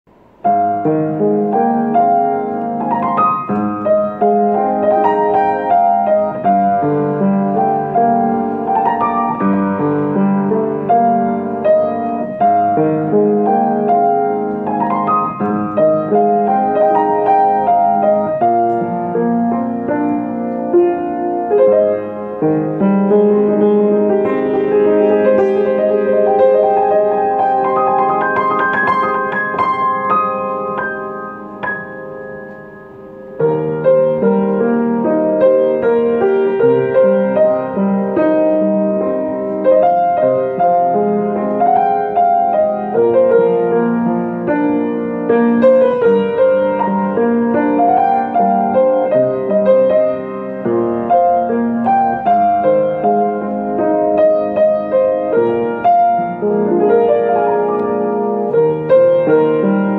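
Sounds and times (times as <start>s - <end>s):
solo piano ballad: 0.1s - 59.9s.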